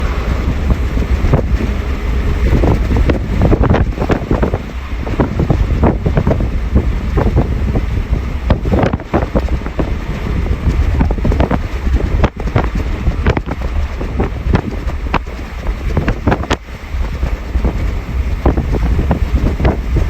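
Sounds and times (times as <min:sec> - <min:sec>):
train clicks and rattles: 0:00.0 - 0:20.0
train rumble: 0:00.0 - 0:20.0
wind noise on microphone: 0:00.0 - 0:20.0.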